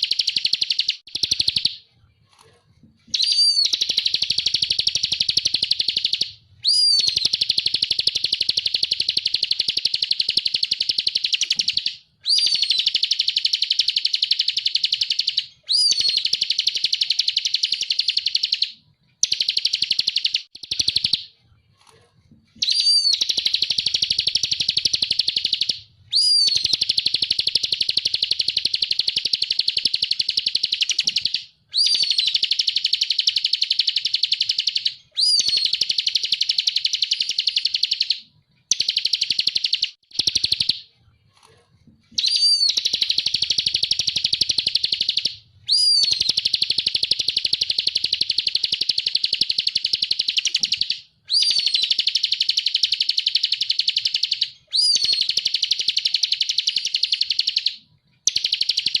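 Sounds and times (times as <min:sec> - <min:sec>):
bird singing rapid high trills: 0:03.1 - 0:21.3, 0:22.6 - 0:40.8, 0:42.2 - 0:57.7.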